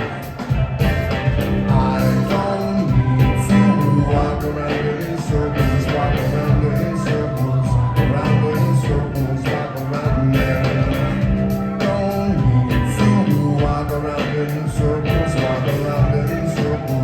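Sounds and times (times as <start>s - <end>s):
bass line: 0.0s - 17.0s
live rock band playing: 0.0s - 17.0s
person singing: 0.0s - 17.0s
steady drum beat: 0.0s - 17.0s.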